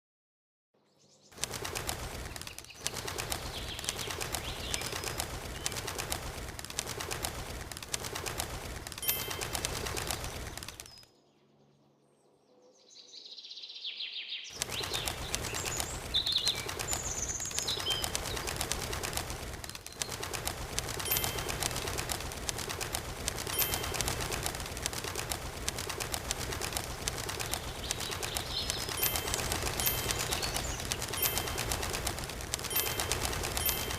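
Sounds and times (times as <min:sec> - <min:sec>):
small bird wings fluttering: 0:01.3 - 0:11.1, 0:14.5 - 0:33.9.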